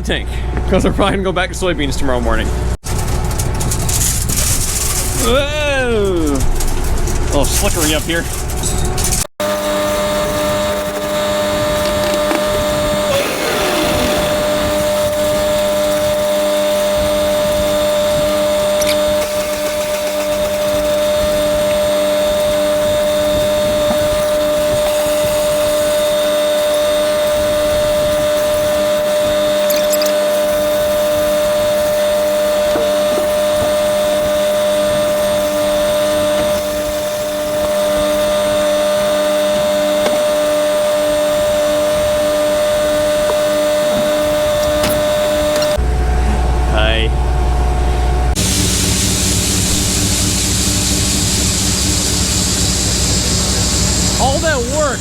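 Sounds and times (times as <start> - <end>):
loud motor hum: 2.5 - 55.0.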